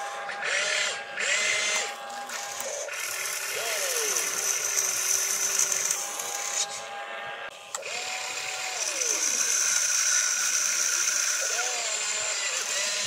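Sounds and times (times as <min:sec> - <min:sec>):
small electric motors whining: 0:00.0 - 0:13.0.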